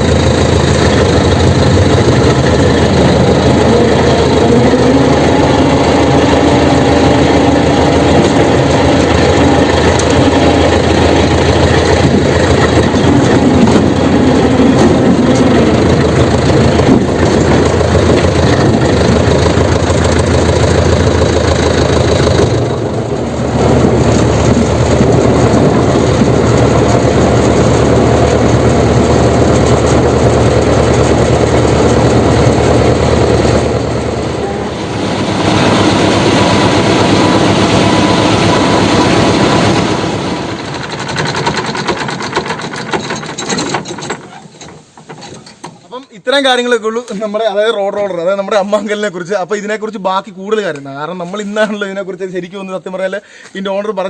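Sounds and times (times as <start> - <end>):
road roller diesel engine running: 0.0 - 46.2.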